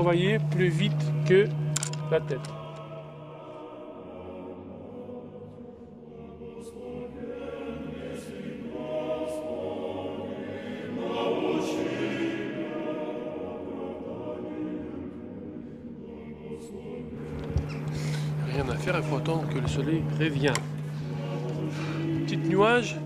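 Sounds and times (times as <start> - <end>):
choir singing slow chant: 0.0 - 23.0.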